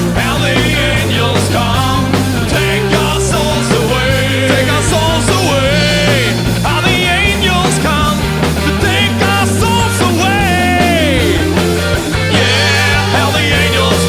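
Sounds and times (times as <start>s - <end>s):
bending lead guitar line: 0.0s - 14.0s
rock band playing: 0.0s - 14.0s.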